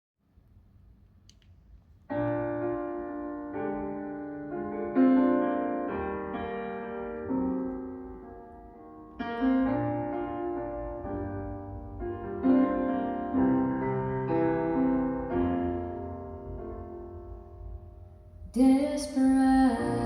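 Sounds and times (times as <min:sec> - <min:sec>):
piano playing slow chords: 0:02.1 - 0:20.0.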